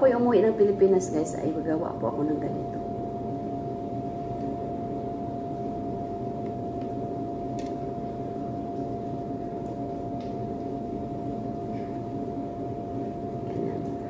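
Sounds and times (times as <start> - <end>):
ventilation fan humming with whine: 0.0 - 14.0.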